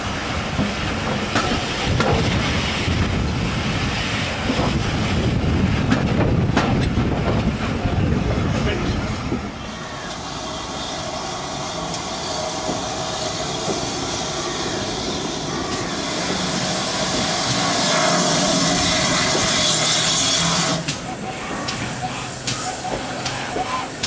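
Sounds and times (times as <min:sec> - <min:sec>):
steam locomotive rushing noise: 0:00.0 - 0:24.0.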